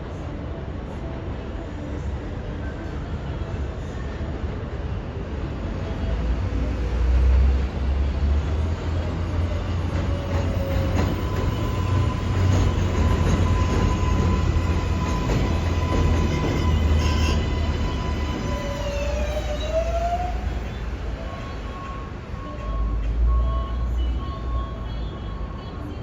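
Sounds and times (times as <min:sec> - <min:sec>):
subway train wheels rumbling: 0:00.0 - 0:26.0.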